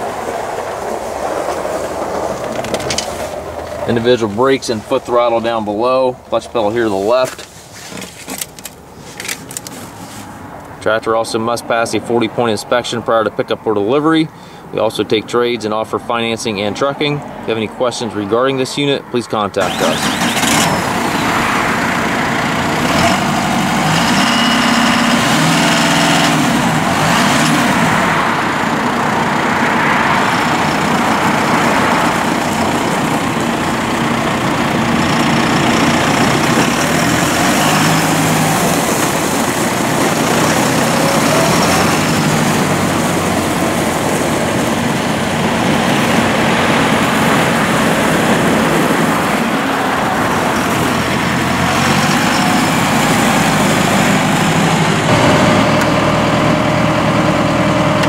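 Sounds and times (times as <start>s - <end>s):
tractor diesel engine running: 0.0s - 13.1s, 19.5s - 58.0s.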